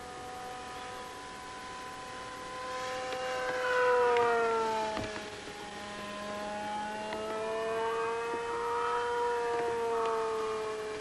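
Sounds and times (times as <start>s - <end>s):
electric motor and propeller whine: 0.0s - 11.0s.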